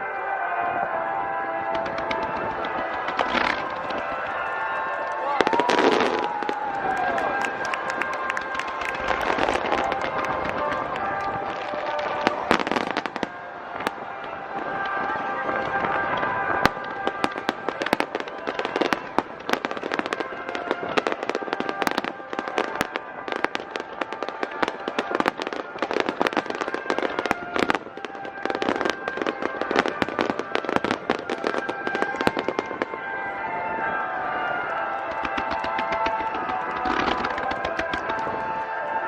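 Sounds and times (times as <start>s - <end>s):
fireworks crackling and popping: 0.0s - 39.0s
music playing: 0.0s - 39.0s.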